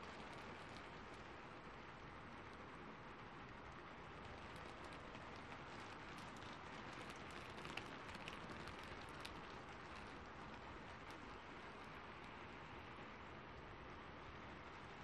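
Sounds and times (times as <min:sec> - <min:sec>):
fireplace crackling: 0:00.0 - 0:13.4
rain hiss: 0:00.0 - 0:15.0.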